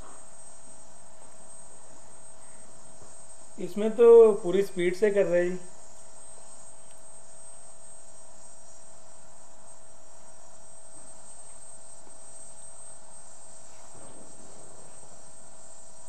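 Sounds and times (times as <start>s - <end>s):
constant hiss: 0.0s - 16.0s
high-pitched electrical whine: 0.0s - 16.0s.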